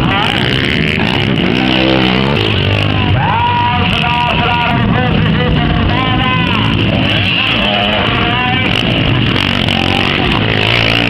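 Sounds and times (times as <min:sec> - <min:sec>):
dirt bike engines revving: 0:00.0 - 0:11.0
voices: 0:00.0 - 0:11.0.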